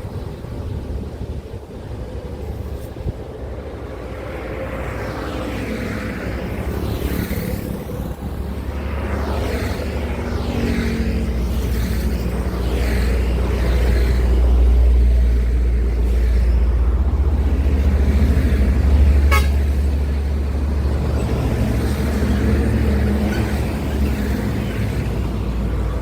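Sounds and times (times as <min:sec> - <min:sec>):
truck engines rumbling: 0:00.0 - 0:26.0.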